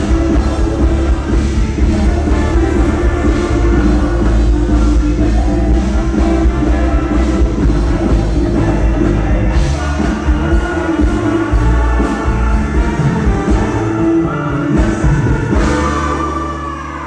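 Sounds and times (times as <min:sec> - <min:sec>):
brass band music: 0:00.0 - 0:17.0
person singing: 0:00.0 - 0:17.0.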